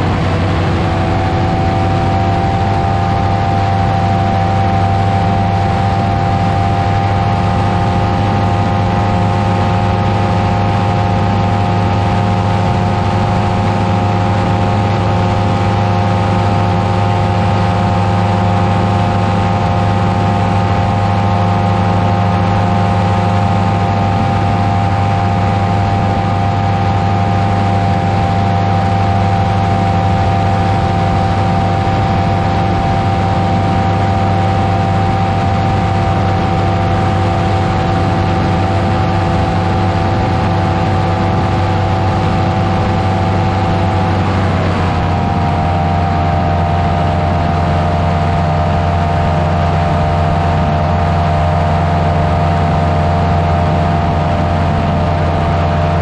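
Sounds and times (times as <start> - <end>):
engine and propeller running: 0.0 - 56.0.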